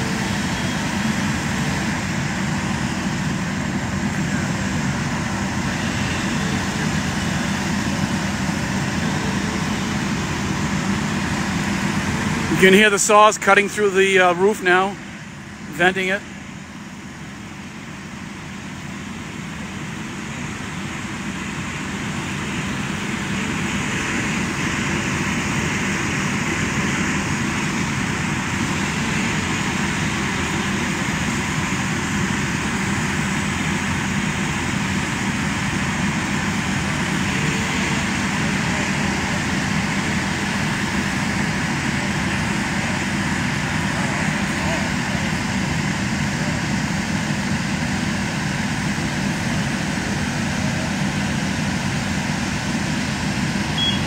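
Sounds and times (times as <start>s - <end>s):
gas-powered saws running: 0.0s - 54.0s.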